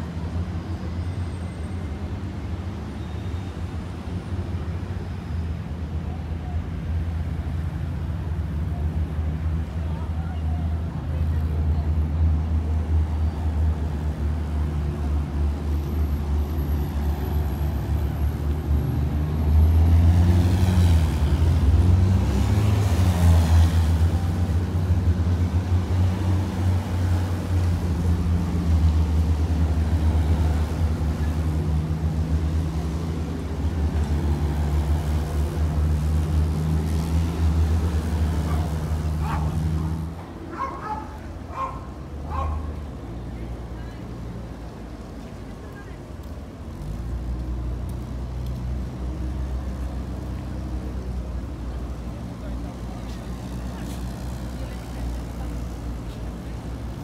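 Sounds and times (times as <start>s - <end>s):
armoured vehicle diesel engines: 0.0s - 57.0s.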